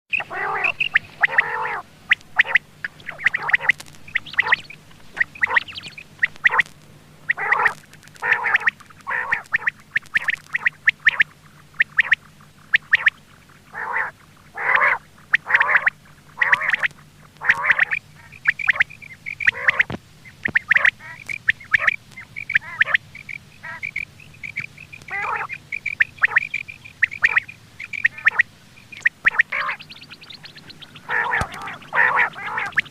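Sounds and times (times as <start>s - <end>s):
faint steady hum: 0.1s - 32.9s
quail calling: 0.1s - 32.9s.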